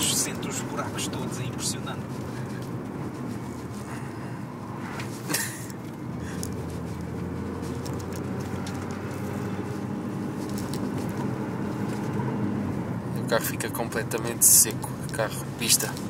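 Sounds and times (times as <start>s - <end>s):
car engine and road noise drone: 0.0s - 16.0s.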